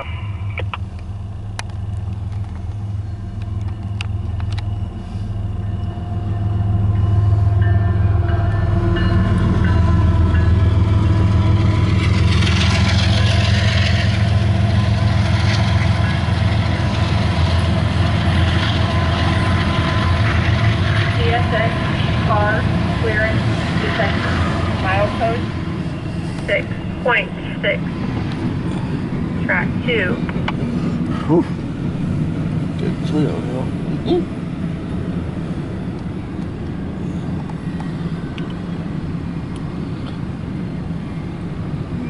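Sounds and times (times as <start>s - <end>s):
diesel locomotive engine drone: 0.0s - 42.0s
train wheels rumbling on rails: 0.0s - 42.0s.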